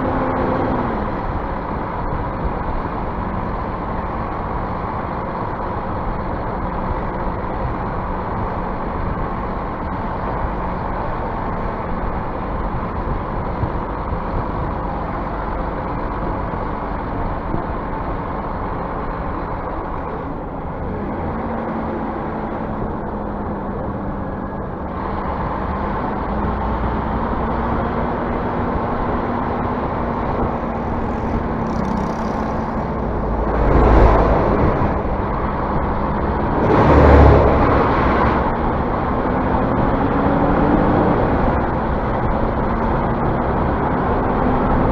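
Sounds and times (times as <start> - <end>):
bus engine running: 0.0 - 44.9
rush of noise and rumble: 0.0 - 44.9.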